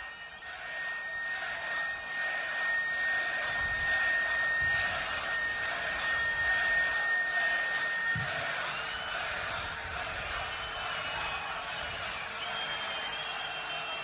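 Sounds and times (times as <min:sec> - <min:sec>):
large crowd cheering: 0:00.0 - 0:14.0
steady high whine: 0:00.0 - 0:14.0.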